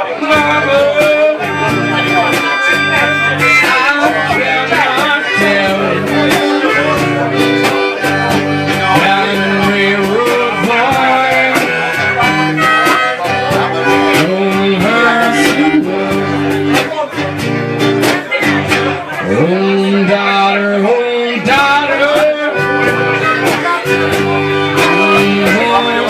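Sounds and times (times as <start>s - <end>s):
sustained melody line: 0.0s - 18.0s, 18.6s - 26.0s
strummed acoustic guitar: 0.0s - 26.0s.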